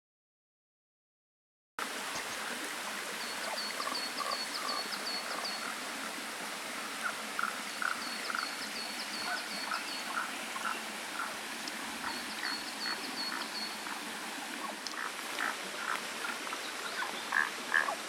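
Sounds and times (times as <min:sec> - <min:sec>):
mountain stream babbling: 0:01.8 - 0:18.0.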